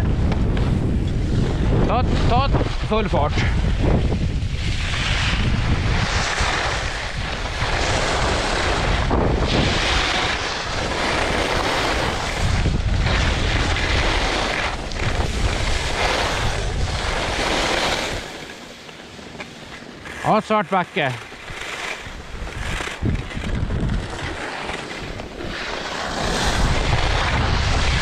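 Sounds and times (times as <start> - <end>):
wind buffeting microphone: 0.0 - 18.6, 21.4 - 28.0
skis hissing on snow: 2.3 - 23.0, 24.0 - 28.0.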